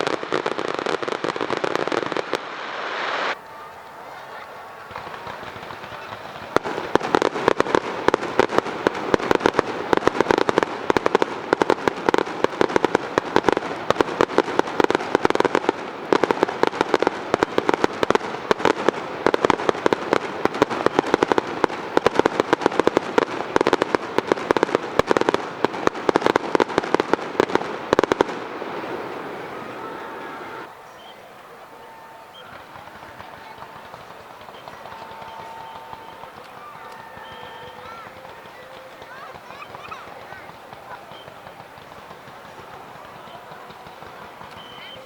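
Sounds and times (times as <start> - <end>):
fireworks bangs and crackles: 0.0 - 45.0
fireworks echo: 0.0 - 45.0.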